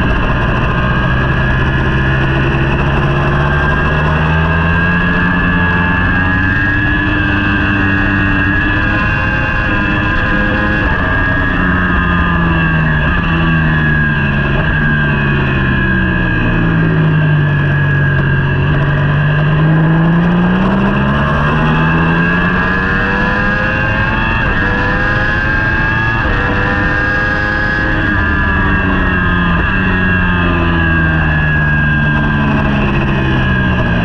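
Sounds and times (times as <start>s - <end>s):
motorcycle engine running hard: 0.0s - 34.0s
rush of noise: 0.0s - 34.0s.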